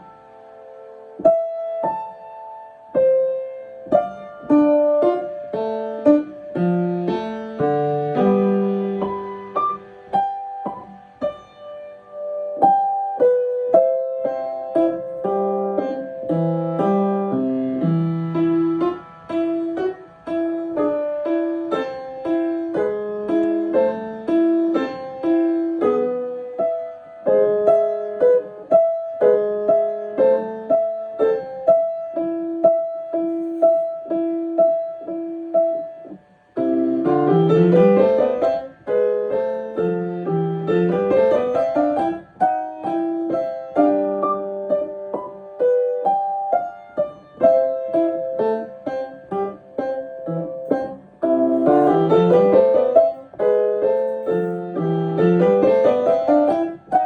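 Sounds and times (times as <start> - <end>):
piano notes: 0.0 - 57.0.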